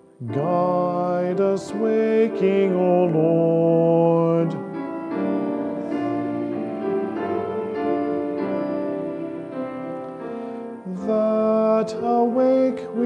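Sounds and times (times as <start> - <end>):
keyboard playing slow chords: 0.0 - 13.0.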